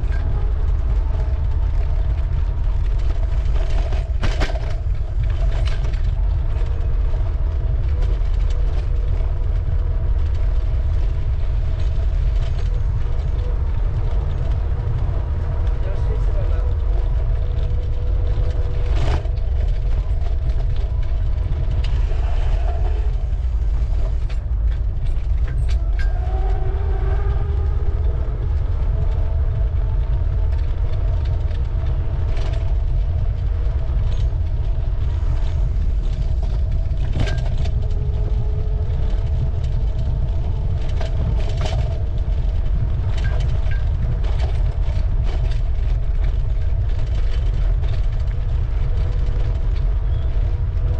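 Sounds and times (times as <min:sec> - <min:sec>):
wind rumble on microphone: 0:00.0 - 0:50.9.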